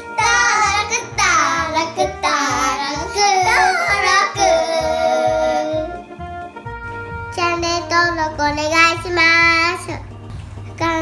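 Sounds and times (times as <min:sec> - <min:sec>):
upbeat music with steady beat: 0:00.0 - 0:11.0.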